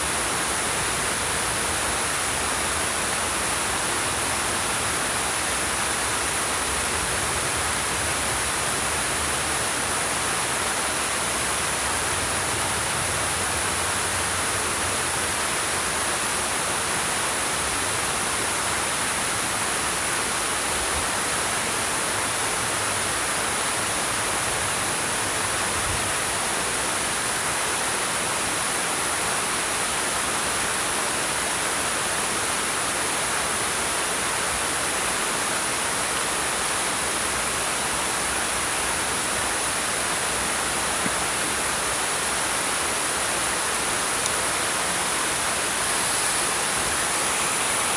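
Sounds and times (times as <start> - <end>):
waterfall splashing over rocks: 0.0 - 47.9.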